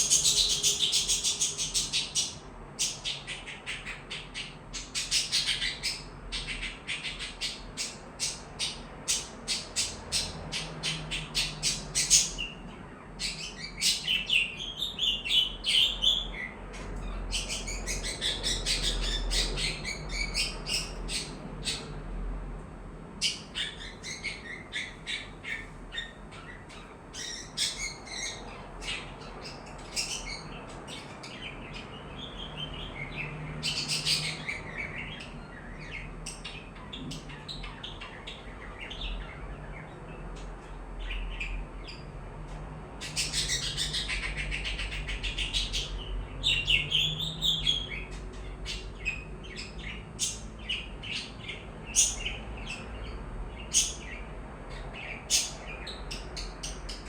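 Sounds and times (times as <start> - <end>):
birds chirping: 0.0 - 22.2, 23.1 - 57.0.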